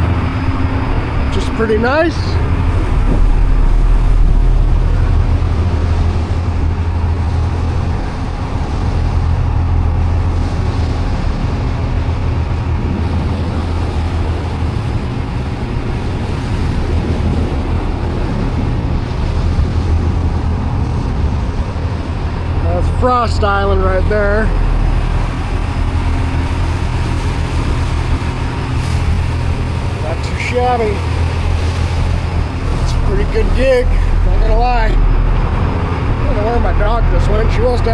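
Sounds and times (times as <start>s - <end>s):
boat engine droning: 0.0s - 37.9s
steady rushing noise: 0.0s - 37.9s.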